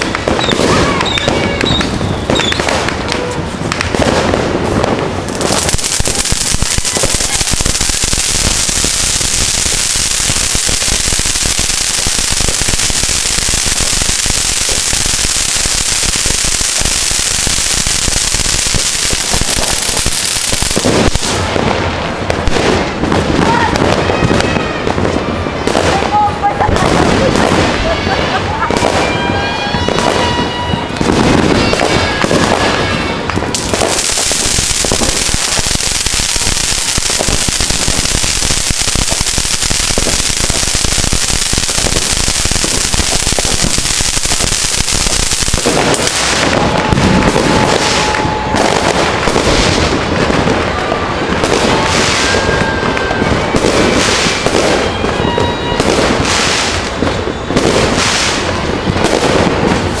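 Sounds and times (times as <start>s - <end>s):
firework whistles: 0.0s - 21.5s, 27.1s - 60.0s
spark fountain firework hissing: 0.0s - 21.5s, 31.6s - 60.0s
firecracker crackling: 0.0s - 60.0s
fireworks crackling and popping: 0.0s - 60.0s.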